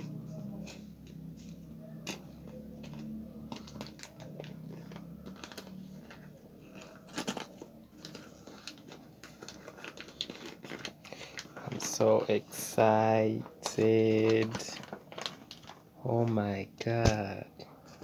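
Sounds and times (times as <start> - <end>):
wrapping paper crinkling: 0.0 - 18.0.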